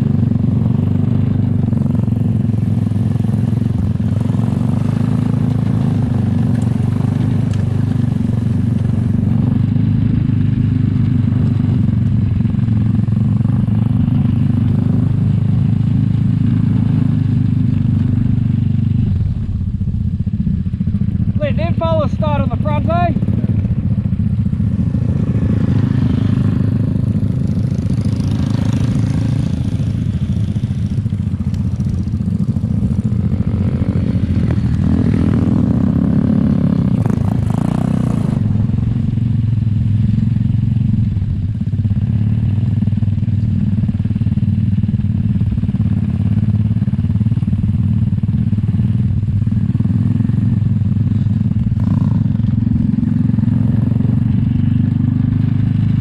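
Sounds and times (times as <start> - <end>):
kart engine running at low speed: 0.0 - 56.0.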